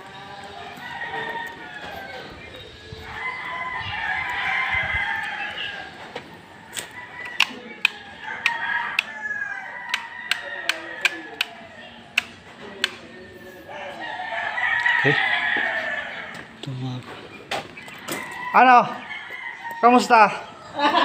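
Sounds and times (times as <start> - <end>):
roosters crowing: 0.0 - 21.0.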